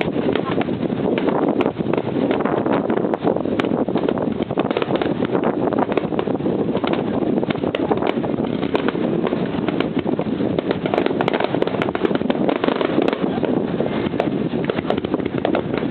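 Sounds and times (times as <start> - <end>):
fireworks popping and crackling: 0.0 - 15.9.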